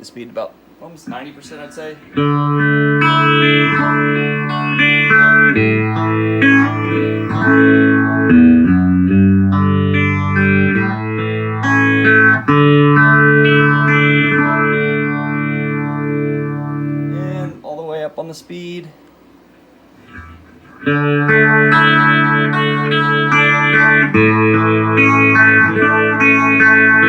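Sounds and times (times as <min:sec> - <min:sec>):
electric guitar chords with phaser: 0:02.0 - 0:17.4, 0:20.0 - 0:27.0.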